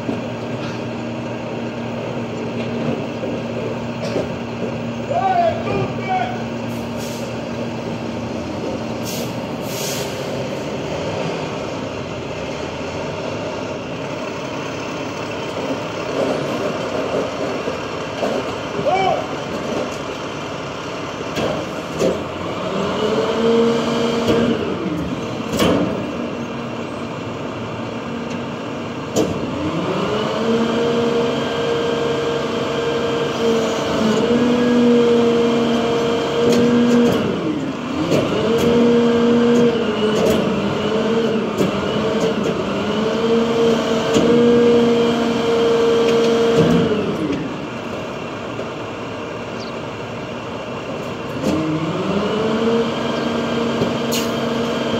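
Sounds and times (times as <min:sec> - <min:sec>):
diesel truck engine revving: 0:00.0 - 0:54.9.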